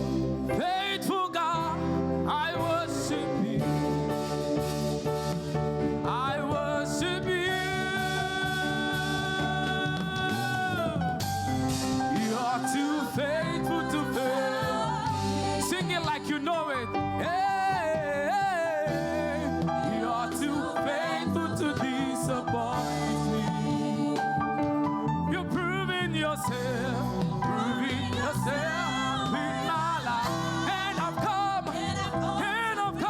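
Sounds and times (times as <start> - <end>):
instrumental backing: 0.0 - 33.0
person singing gospel: 0.0 - 33.0.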